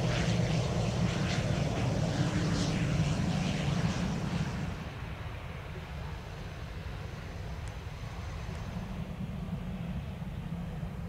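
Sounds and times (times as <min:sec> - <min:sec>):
turboprop engine idling: 0:00.0 - 0:11.0.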